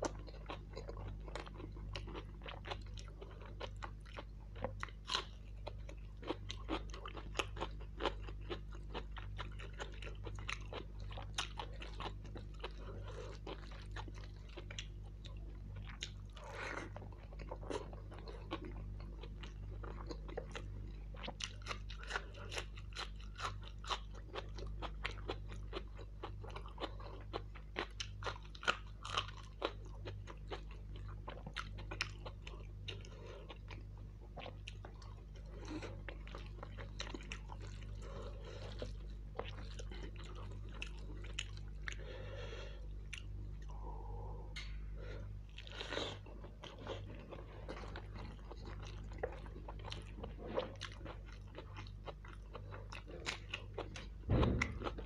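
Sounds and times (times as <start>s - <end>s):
crunchy chewing: 0.0s - 43.9s, 44.5s - 55.0s
steady low hum: 0.0s - 55.0s.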